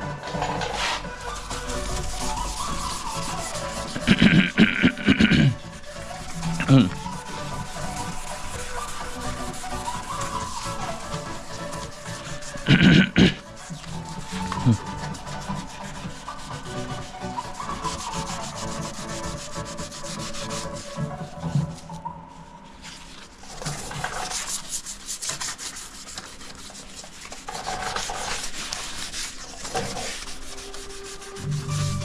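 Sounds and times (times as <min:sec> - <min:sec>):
sanding car body panel: 0:00.7 - 0:21.1, 0:23.7 - 0:32.0.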